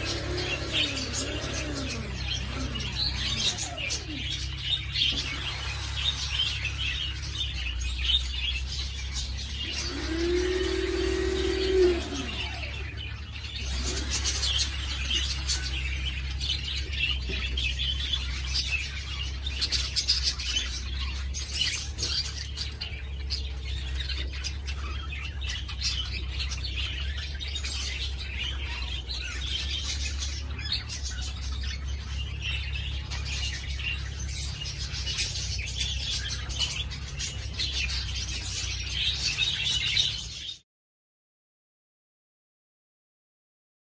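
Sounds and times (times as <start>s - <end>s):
steady low hum: 0.0s - 39.2s
budgerigars chattering: 0.0s - 40.6s.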